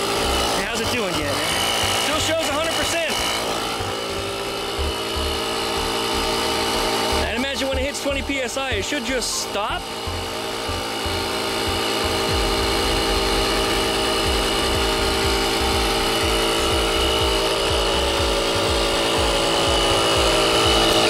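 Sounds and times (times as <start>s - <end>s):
air compressor inflating tire: 0.0s - 21.0s.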